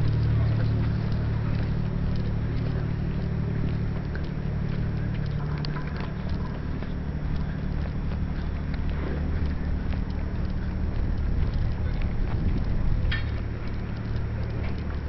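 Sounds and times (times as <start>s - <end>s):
footsteps on concrete: 0.0s - 15.0s
low engine hum: 0.0s - 15.0s.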